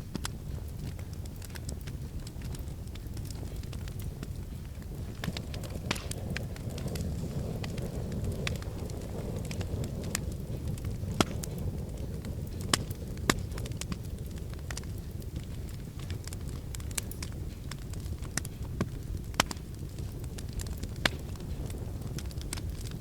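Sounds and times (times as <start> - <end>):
fire crackling and popping: 0.0 - 23.0
wood fire rumble: 0.0 - 23.0.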